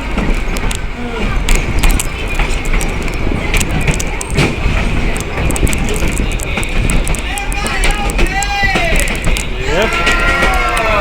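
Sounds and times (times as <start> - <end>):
train car rumbling on track: 0.0 - 11.0
wheels clicking and knocking: 0.0 - 11.0.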